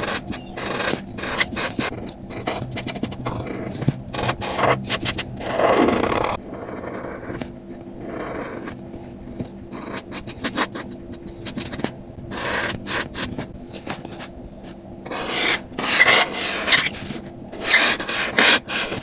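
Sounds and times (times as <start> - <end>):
marker scratching on paper: 0.0 - 19.0.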